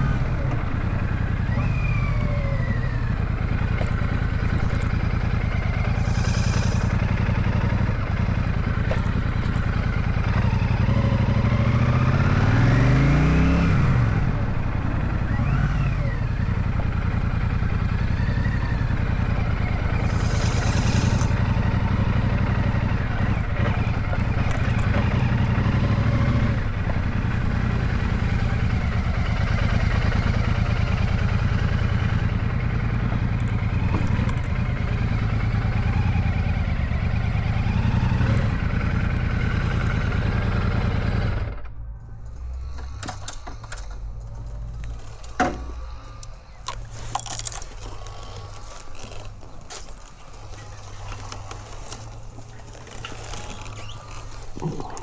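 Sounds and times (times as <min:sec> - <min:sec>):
motorcycle engine running: 0:00.0 - 0:43.1, 0:43.8 - 0:55.0.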